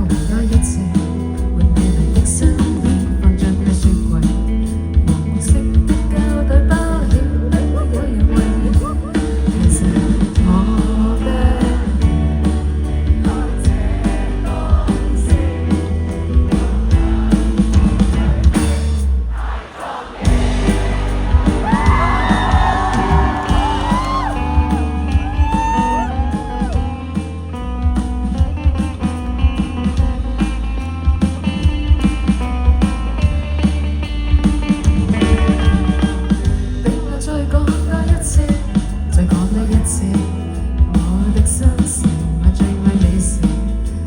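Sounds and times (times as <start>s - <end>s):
live band music with singing: 0.0s - 44.0s.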